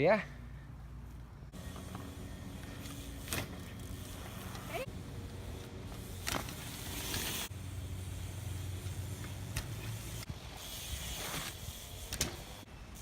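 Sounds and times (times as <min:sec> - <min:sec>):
bike tyres rolling over ground: 0:01.6 - 0:12.6.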